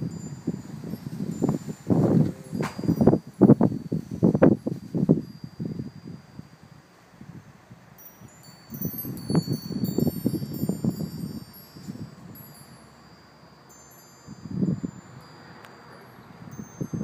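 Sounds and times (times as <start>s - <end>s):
wind chimes ringing: 0.0s - 17.0s.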